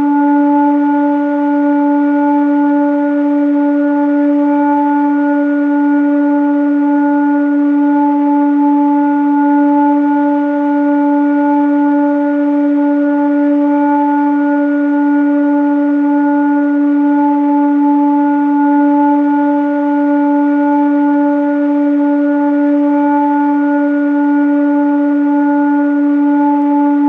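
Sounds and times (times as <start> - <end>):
low steady drone: 0.0 - 27.0.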